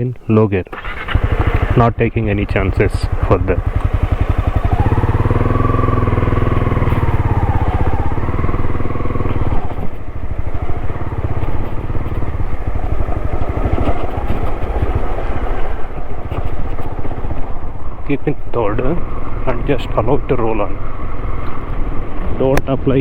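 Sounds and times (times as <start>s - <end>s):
motorcycle engine pulling uphill: 0.0s - 23.0s.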